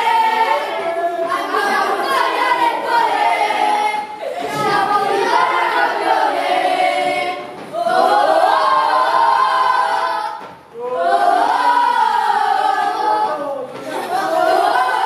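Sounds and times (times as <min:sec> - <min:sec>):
group singing without instruments: 0:00.0 - 0:15.0.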